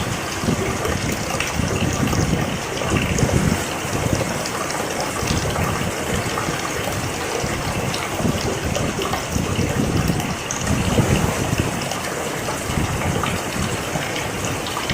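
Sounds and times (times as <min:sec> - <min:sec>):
rain falling steadily: 0:00.0 - 0:14.9.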